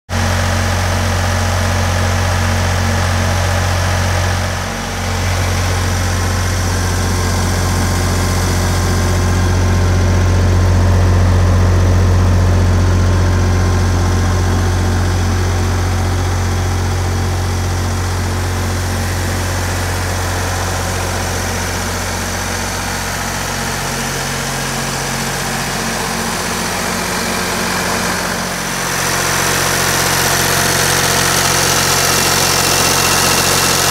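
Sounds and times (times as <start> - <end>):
diesel welding generator humming: 0.1 - 33.9.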